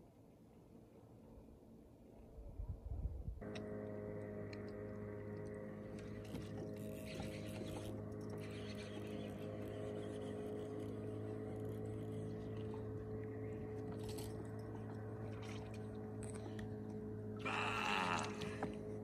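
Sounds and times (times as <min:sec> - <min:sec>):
low drone music: 0:03.4 - 0:19.0.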